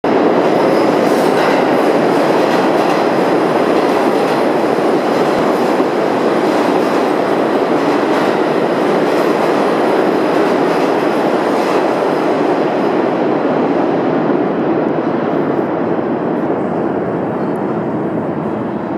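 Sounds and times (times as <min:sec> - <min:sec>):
subway train rumbling past: 0:00.0 - 0:18.9.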